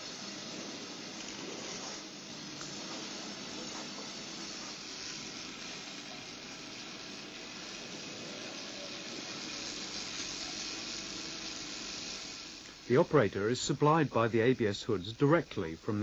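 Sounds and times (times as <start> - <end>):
factory hiss: 0.0 - 16.0.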